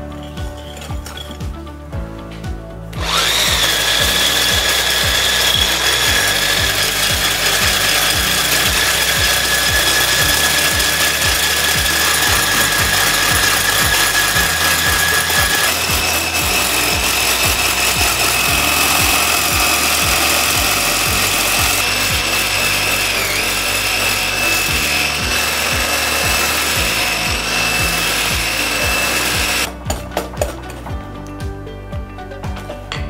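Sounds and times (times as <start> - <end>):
electric hand mixer whirring: 3.0 - 29.7.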